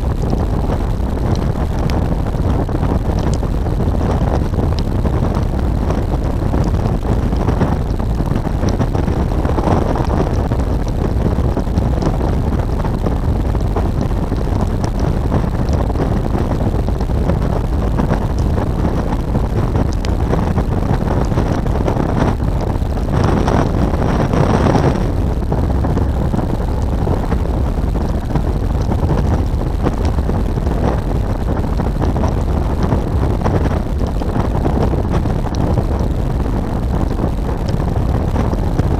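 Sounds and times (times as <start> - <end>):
motorcycle engine running: 0.0 - 34.2
wind rushing over microphone: 0.0 - 38.9.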